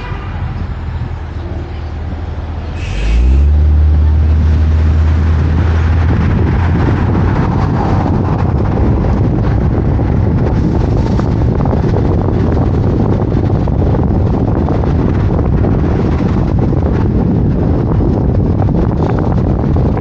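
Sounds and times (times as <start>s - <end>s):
loud low engine rumble: 0.0s - 20.0s
traffic and road noise: 0.0s - 20.0s.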